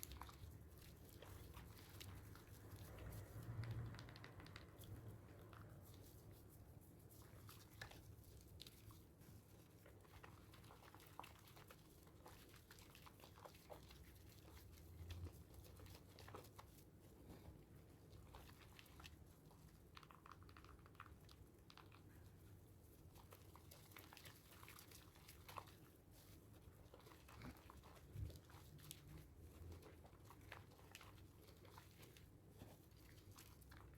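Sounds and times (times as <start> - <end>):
soap lather squishing: 0.0 - 33.9.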